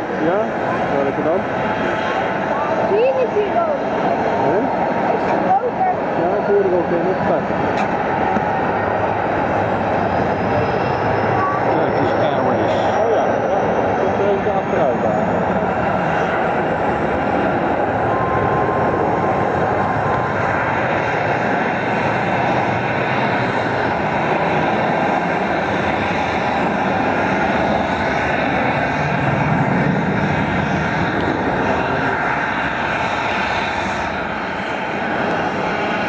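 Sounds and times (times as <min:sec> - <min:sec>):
jet engine noise: 0:00.0 - 0:36.0.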